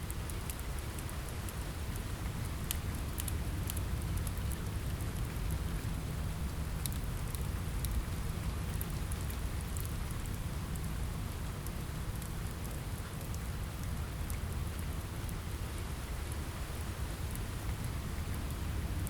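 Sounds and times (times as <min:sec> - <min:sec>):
rain on a window: 0:00.0 - 0:19.0
wood fire crackling: 0:00.0 - 0:19.0.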